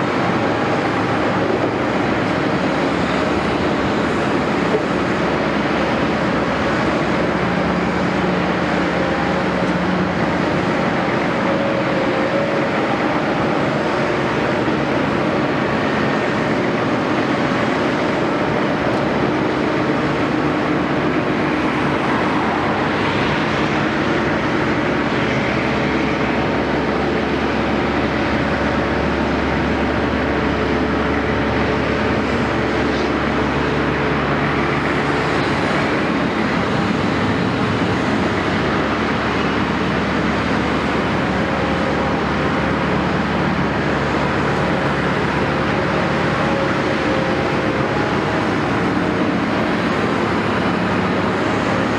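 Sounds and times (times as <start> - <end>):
excavator diesel engine droning: 0.0 - 51.9.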